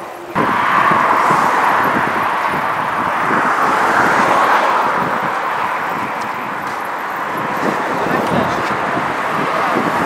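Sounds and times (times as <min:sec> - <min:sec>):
road traffic rushing: 0:00.0 - 0:10.0
wind buffeting microphone: 0:00.0 - 0:10.0.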